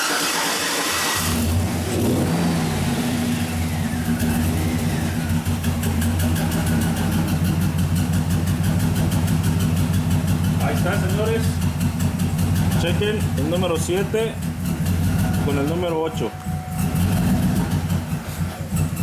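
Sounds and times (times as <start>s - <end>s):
engine cranking: 0.0s - 19.0s
misfiring engine running: 0.0s - 19.0s.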